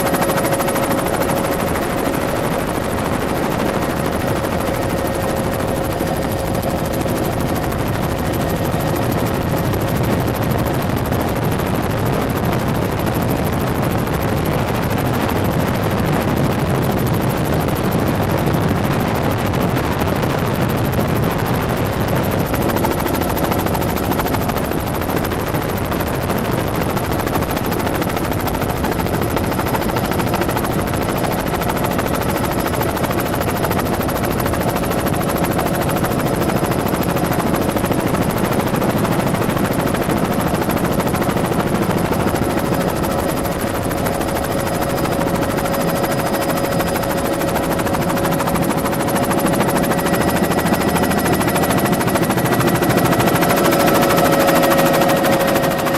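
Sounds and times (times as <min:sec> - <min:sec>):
helicopter engine hum: 0:00.0 - 0:55.9
helicopter rotor chop: 0:00.0 - 0:55.9.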